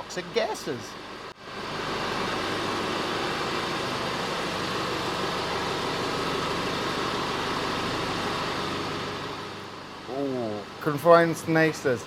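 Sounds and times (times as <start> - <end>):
steady mechanical running noise: 0.0 - 12.0.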